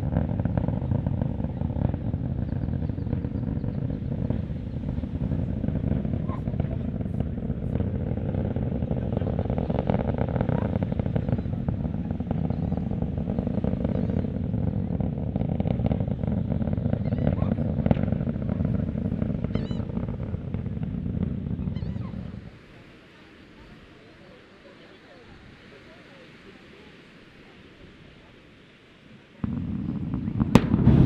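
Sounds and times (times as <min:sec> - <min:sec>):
rocket engines rumbling: 0:00.0 - 0:31.0.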